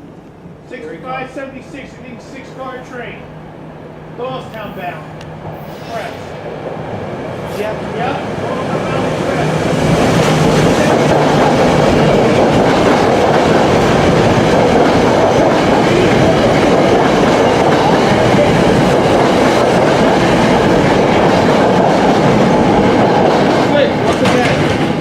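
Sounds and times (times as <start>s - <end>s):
train wheels on rails: 4.2s - 25.0s.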